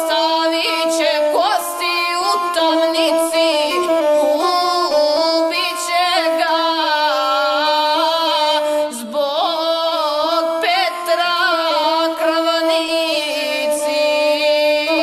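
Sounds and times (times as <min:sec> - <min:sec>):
bowed string fiddle melody: 0:00.0 - 0:15.0.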